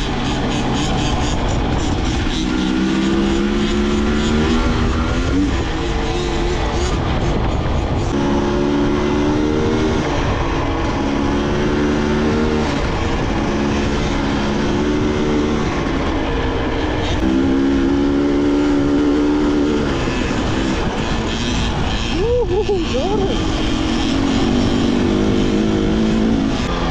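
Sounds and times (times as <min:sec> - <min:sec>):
dirt bike engine running: 0:00.0 - 0:26.9
wind noise: 0:00.0 - 0:26.9.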